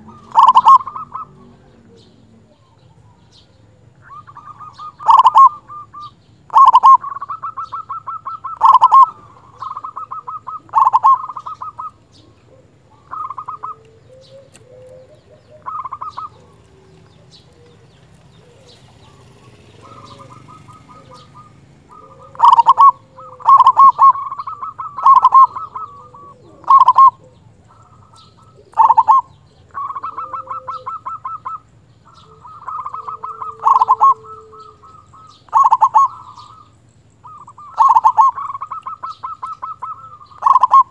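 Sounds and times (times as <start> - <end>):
dove cooing song: 0.0 - 40.9
lower bird call: 0.0 - 40.9.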